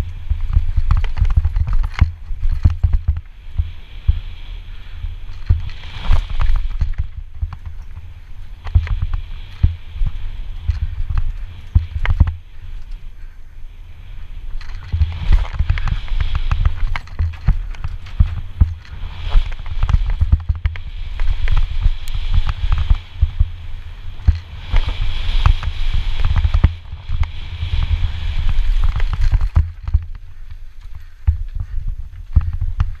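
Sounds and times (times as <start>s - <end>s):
knocks and rattles over boardwalk: 0.0s - 13.0s, 14.5s - 33.0s
bike tyres rumbling: 0.0s - 33.0s
wind hiss on microphone: 0.0s - 33.0s.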